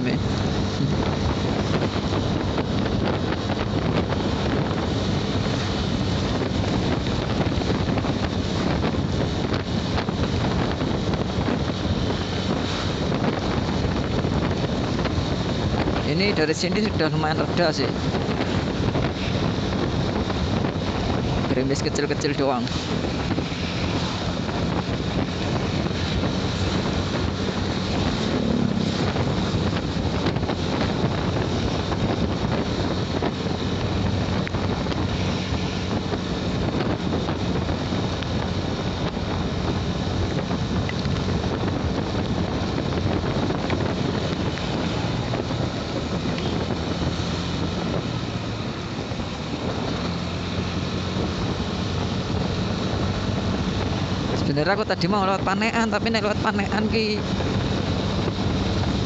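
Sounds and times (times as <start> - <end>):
motorcycle engine humming: 0.0 - 59.0
tyres on wet road: 0.0 - 59.0
wind noise: 0.0 - 59.0.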